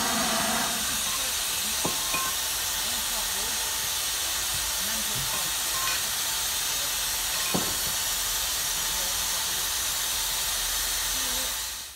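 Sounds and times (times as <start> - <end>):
steam hiss: 0.0 - 11.9.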